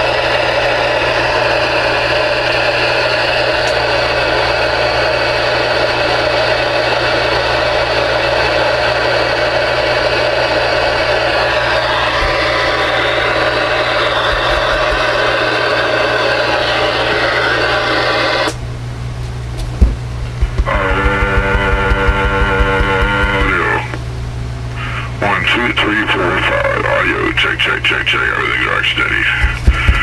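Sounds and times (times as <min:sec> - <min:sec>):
radio speaker hiss and hum: 0:00.0 - 0:18.6, 0:19.7 - 0:24.1, 0:24.7 - 0:30.0.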